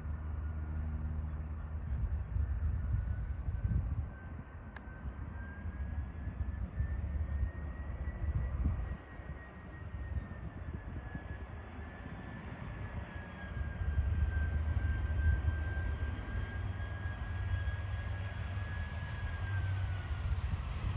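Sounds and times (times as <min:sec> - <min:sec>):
distant jet engine rumble: 0:00.0 - 0:20.9
jet engine high whine: 0:00.0 - 0:20.9.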